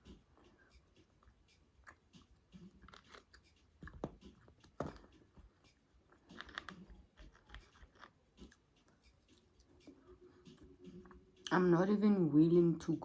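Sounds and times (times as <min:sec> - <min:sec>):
chewing crunchy fried chicken: 0:00.0 - 0:11.2.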